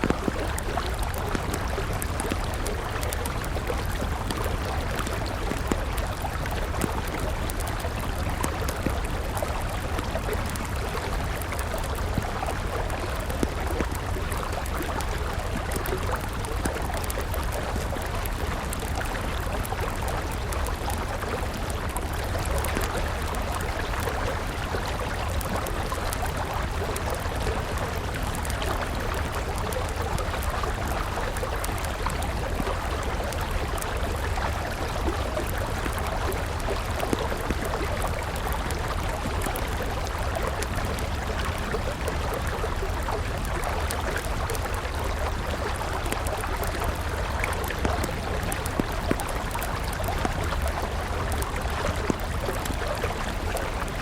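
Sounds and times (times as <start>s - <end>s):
campfire crackling: 0.0s - 54.0s
river water flowing: 0.0s - 54.0s.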